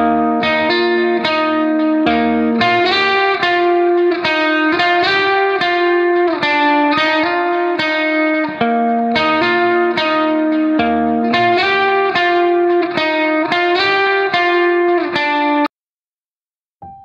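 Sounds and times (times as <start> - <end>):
instrumental music chords: 0.0 - 15.7.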